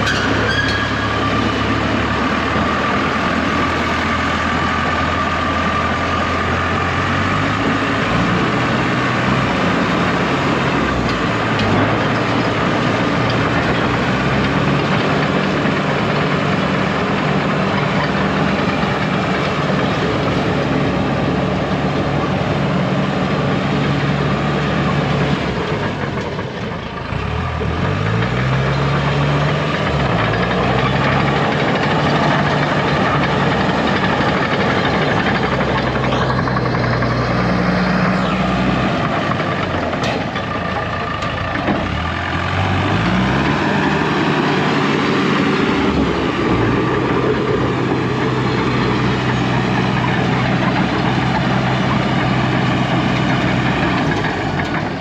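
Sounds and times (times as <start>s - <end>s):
dozer diesel engine running: 0.0s - 55.0s.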